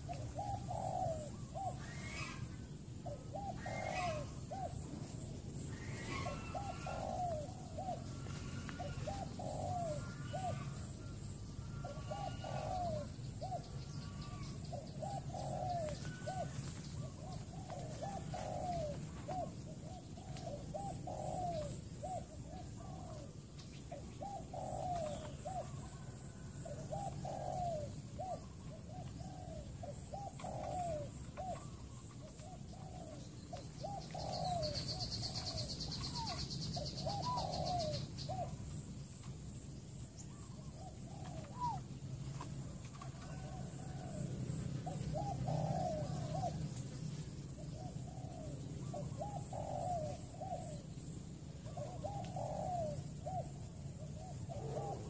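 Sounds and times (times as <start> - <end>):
dove cooing: 0.0 - 55.0
small birds chirping: 0.0 - 55.0.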